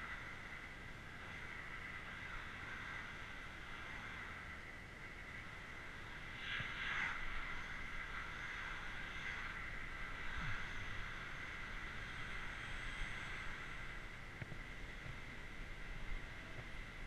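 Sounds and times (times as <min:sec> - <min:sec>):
bicycle tyres hissing on wet tarmac: 0:00.0 - 0:17.0
wind on camera: 0:00.0 - 0:17.0.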